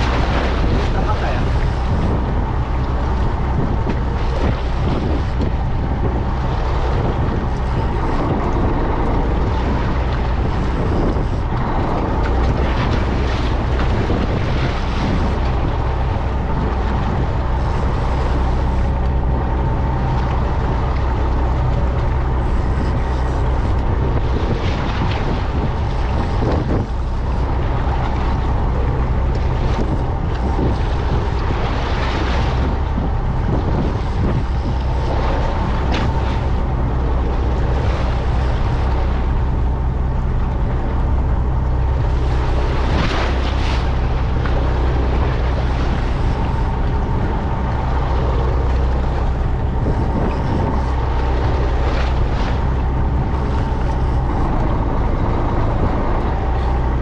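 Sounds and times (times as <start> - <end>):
boat engine humming: 0.0 - 57.0
water noise: 0.0 - 57.0
wind on microphone: 0.0 - 57.0.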